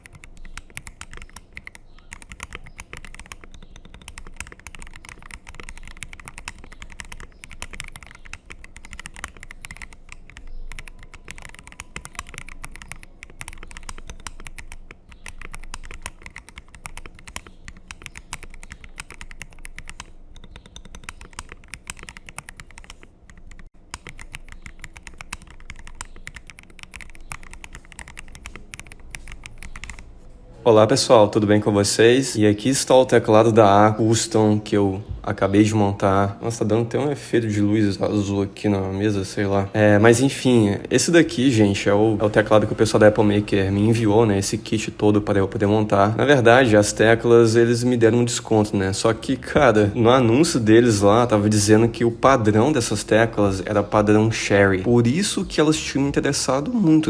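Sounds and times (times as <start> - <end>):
fast typing on mechanical keyboard: 0.0 - 30.3, 40.0 - 57.0.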